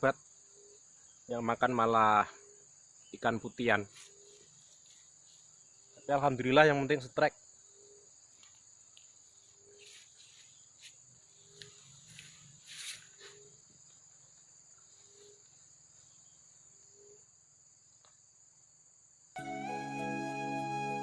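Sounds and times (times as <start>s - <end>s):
insects trilling: 0.0s - 19.4s.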